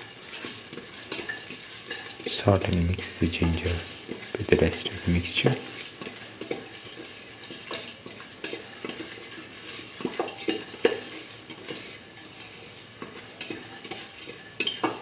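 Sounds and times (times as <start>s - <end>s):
spatula scraping metal pan: 0.0s - 15.0s
spices sizzling in hot oil: 0.0s - 15.0s.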